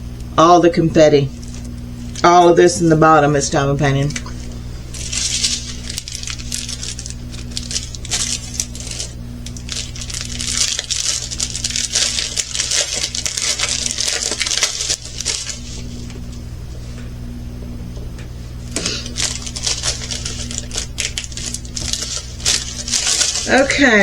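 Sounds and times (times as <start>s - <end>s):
plastic packaging crinkling: 1.3s - 2.7s, 3.3s - 16.4s, 18.6s - 24.0s.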